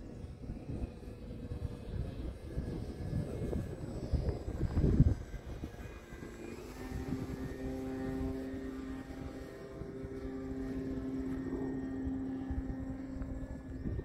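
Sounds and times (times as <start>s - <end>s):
electric propeller motor humming: 0.0s - 14.0s.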